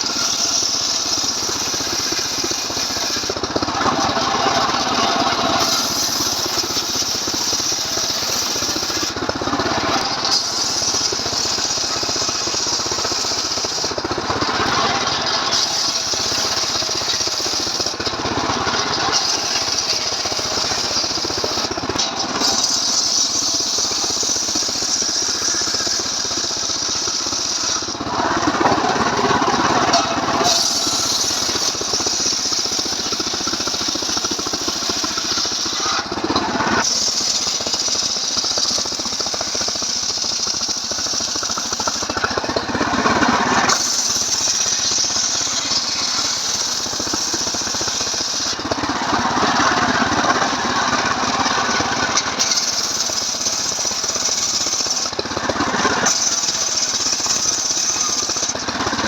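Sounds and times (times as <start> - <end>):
chainsaw sawing wood: 0.0 - 59.0.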